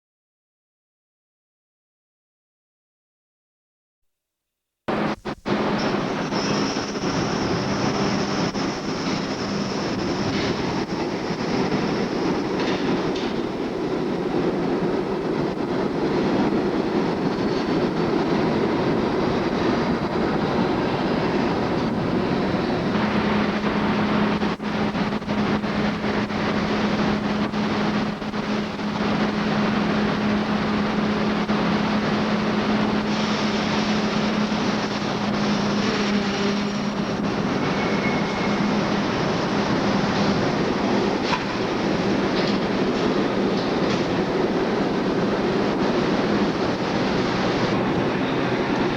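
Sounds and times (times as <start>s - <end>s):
train wheel clatter on rails: 4.9s - 48.9s.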